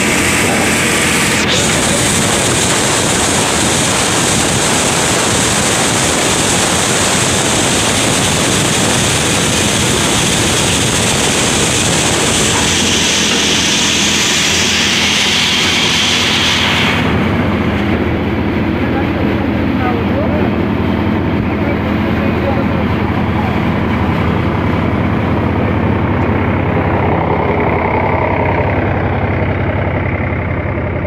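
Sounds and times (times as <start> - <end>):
thresher machine running: 0.0 - 31.0.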